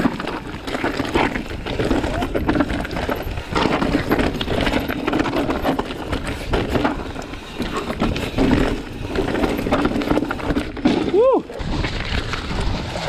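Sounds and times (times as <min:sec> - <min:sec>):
bike rattling and knocking: 0:00.0 - 0:13.0
bike tyres crunching over rocks: 0:00.0 - 0:13.0.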